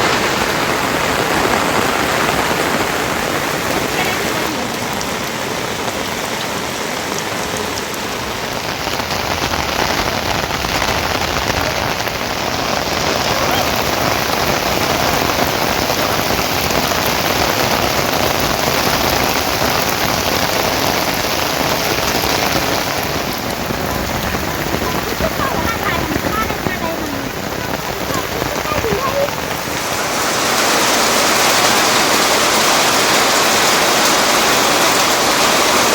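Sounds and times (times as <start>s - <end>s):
rain falling: 0.0s - 35.9s.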